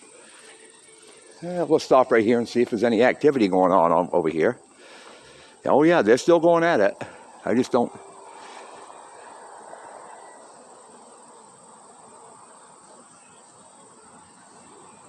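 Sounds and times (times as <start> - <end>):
bees and insects buzzing: 0.0 - 15.0.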